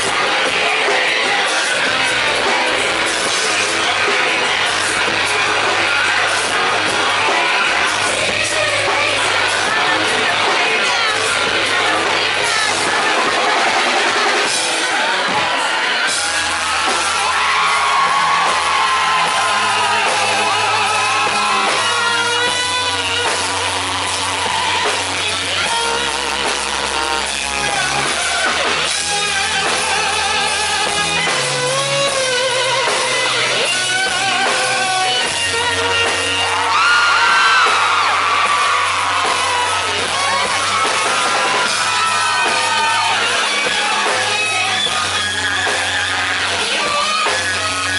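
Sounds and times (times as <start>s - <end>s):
bass notes: 0.0s - 47.9s
electric guitar: 0.0s - 47.9s
person singing: 0.0s - 47.9s.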